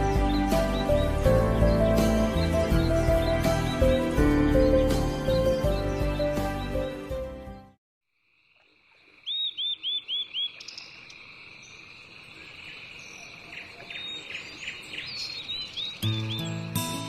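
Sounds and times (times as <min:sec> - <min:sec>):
bird chirping: 0:00.0 - 0:07.7, 0:08.9 - 0:17.0.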